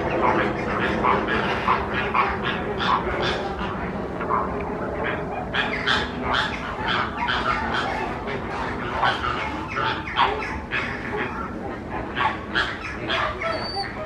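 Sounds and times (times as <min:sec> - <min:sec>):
flock of birds harsh calls: 0:00.0 - 0:14.0.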